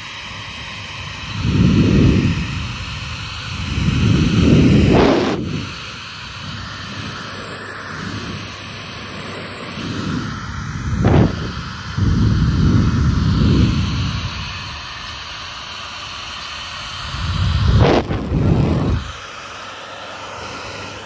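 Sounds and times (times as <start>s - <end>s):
airflow buffeting microphone: 0.0s - 21.0s
hair dryer blowing: 0.0s - 21.0s.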